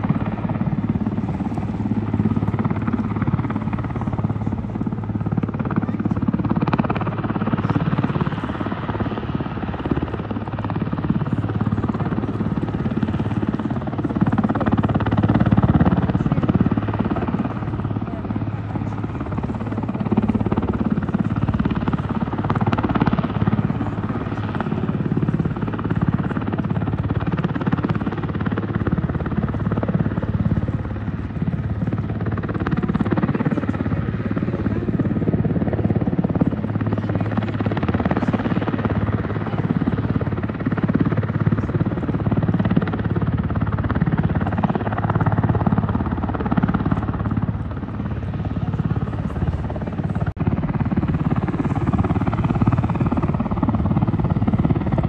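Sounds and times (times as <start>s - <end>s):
helicopter hovering: 0.0s - 55.0s.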